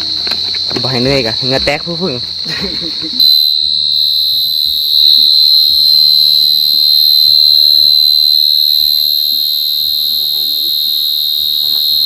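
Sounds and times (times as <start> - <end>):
cricket trilling: 0.0 - 12.0.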